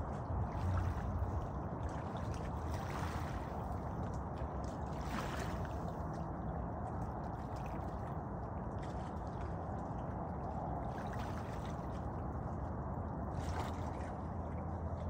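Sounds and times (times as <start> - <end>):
water lapping at shoreline: 0.0 - 15.0.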